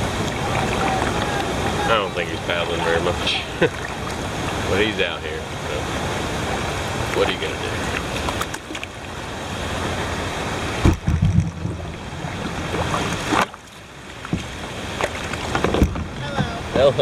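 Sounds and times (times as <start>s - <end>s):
water splashing around kayak: 0.0s - 17.0s
wind buffeting microphone: 0.0s - 17.0s.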